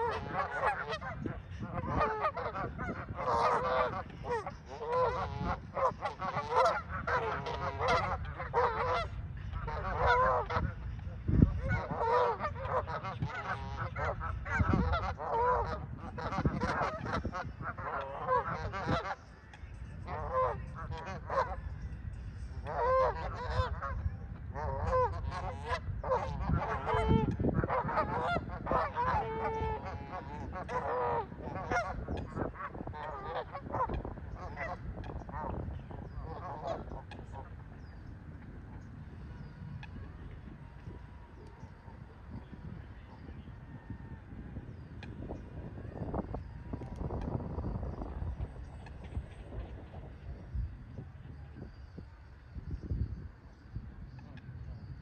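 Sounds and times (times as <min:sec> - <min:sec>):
geese honking: 0:00.0 - 0:21.7, 0:22.4 - 0:50.4.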